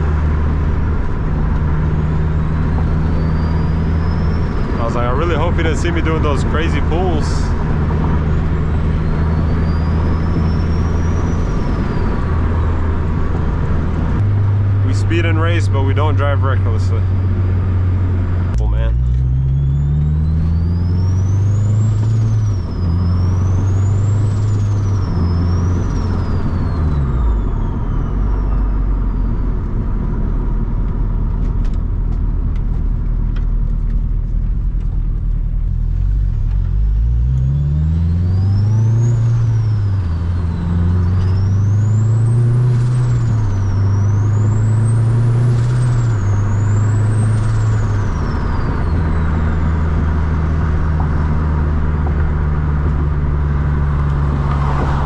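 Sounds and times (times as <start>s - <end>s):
car engine accelerating hard: 0.0s - 55.0s
high turbo whine: 0.0s - 55.0s.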